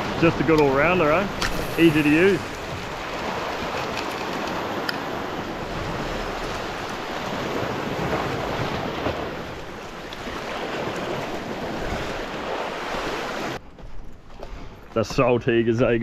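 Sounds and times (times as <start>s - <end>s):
surf washing over rocks: 0.0s - 13.6s
wind buffeting microphone: 0.0s - 14.9s.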